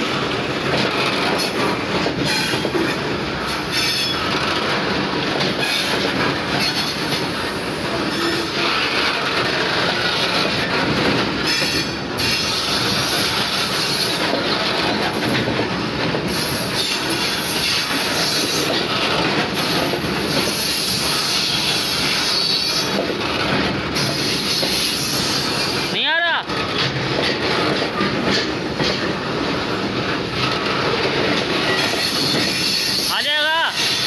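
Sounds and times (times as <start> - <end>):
train wheels on rails: 0.0 - 34.0.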